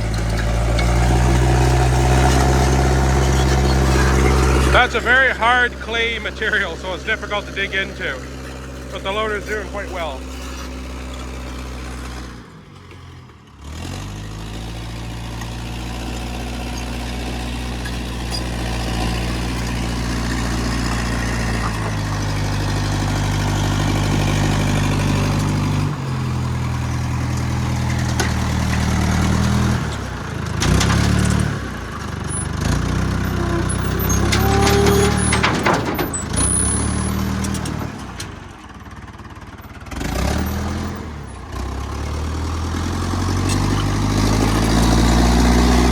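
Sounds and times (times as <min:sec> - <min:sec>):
diesel engine under load: 0:00.0 - 0:45.9.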